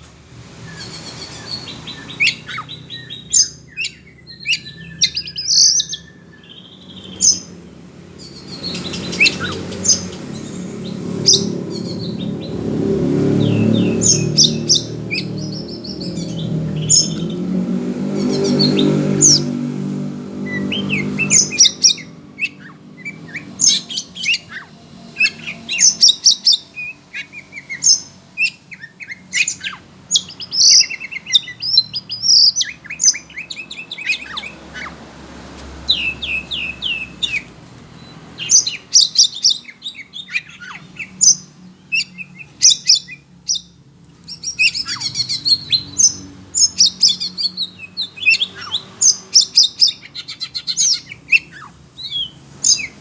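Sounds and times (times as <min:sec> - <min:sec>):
bird singing high chirps: 0:00.6 - 0:35.0, 0:35.8 - 0:53.0.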